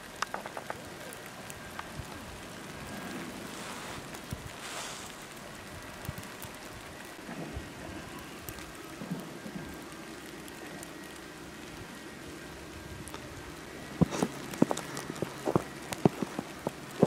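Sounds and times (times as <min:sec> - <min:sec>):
heavy wet snow falling: 0:00.0 - 0:17.0.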